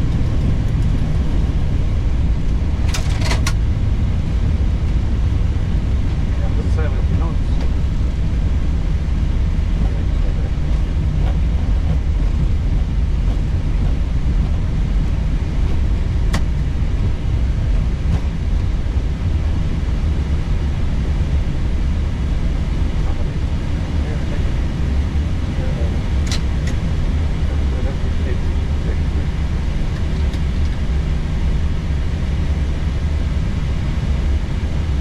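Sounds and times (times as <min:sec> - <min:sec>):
aircraft engine and airflow noise: 0:00.0 - 0:35.0.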